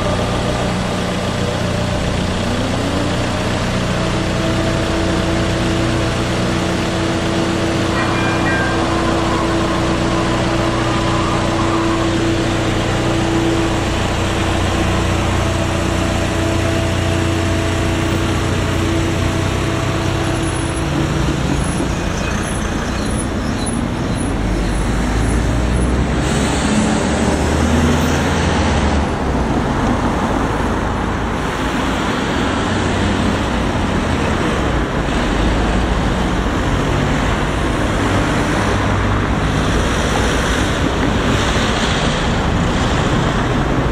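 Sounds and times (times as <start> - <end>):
idling engines hum: 0.0 - 43.9
vehicles driving past: 0.0 - 43.9.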